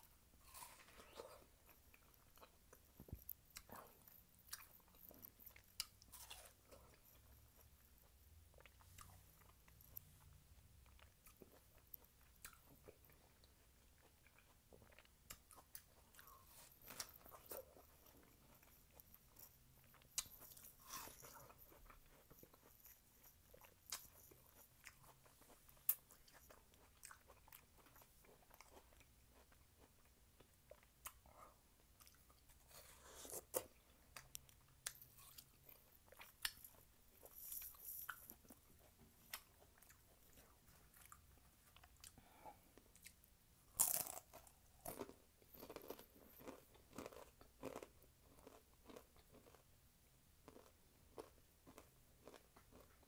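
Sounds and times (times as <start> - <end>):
crunchy chewing: 0.4 - 10.2, 10.8 - 49.7, 50.4 - 53.0.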